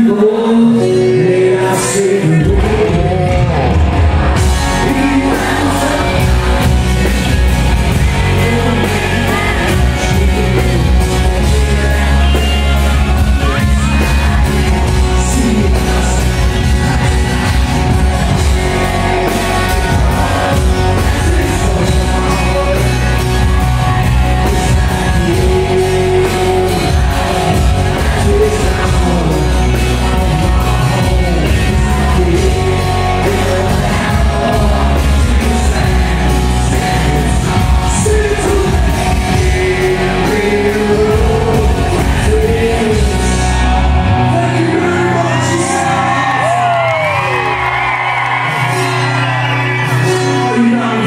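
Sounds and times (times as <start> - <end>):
man singing: 0.0 - 47.6, 48.5 - 51.0
rock band playing: 0.0 - 51.0.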